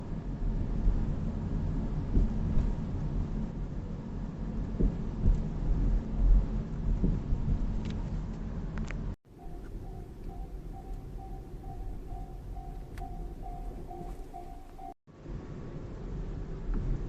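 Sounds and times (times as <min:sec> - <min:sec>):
car road rumble: 0:00.0 - 0:17.0.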